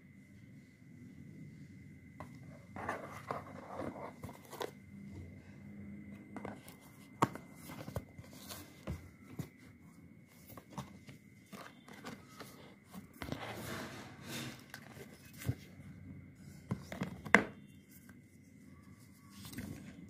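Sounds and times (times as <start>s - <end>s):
faint steady high tone: 0.0s - 13.6s, 14.8s - 20.0s.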